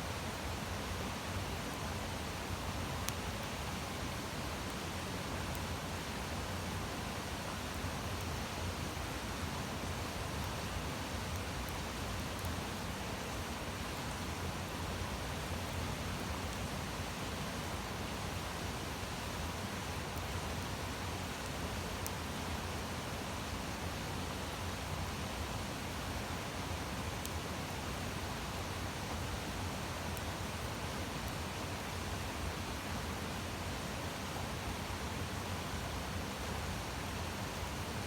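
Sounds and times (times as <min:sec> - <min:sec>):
campfire hissing and crackling: 0:00.1 - 0:38.0.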